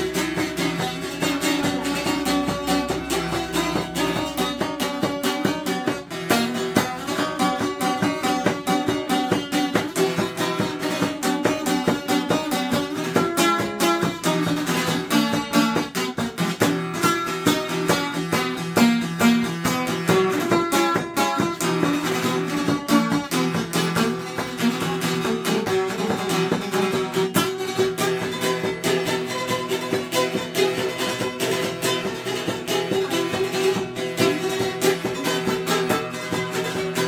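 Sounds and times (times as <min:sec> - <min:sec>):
long-necked lute picking: 0:00.0 - 0:37.0.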